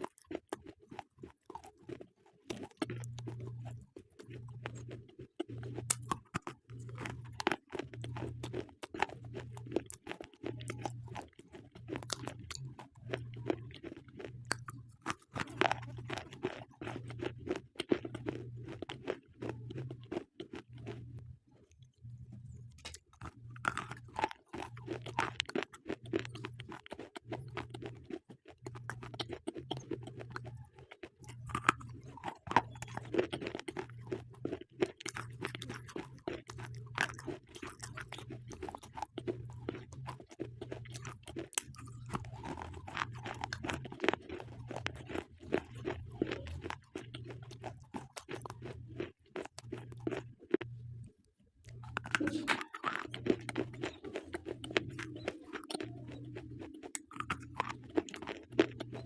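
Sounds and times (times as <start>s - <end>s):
slate pencils crunched by chewing: 0.0s - 21.8s, 22.7s - 50.7s, 51.6s - 59.0s.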